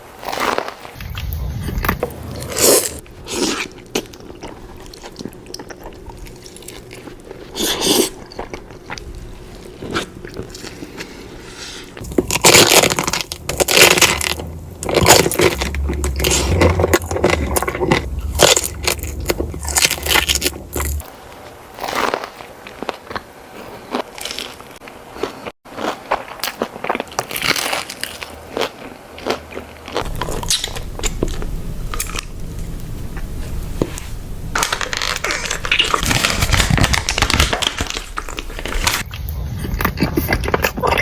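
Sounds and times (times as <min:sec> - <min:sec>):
crunchy chewing: 0:00.2 - 0:41.0.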